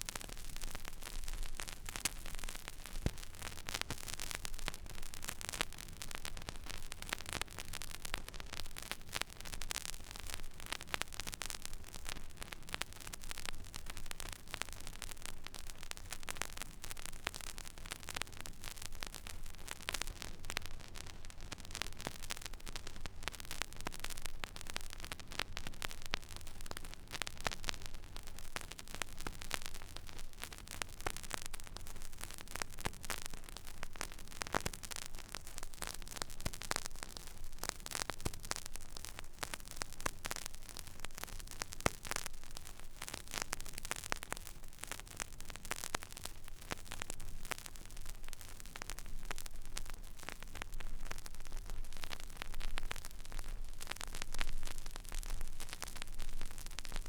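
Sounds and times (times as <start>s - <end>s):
vinyl surface crackle and pops: 0.0s - 57.0s.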